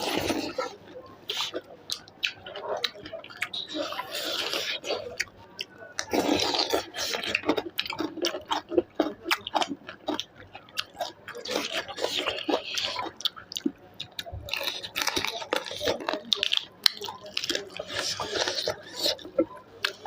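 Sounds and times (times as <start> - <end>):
person chewing with wet smacks: 0.0 - 20.0.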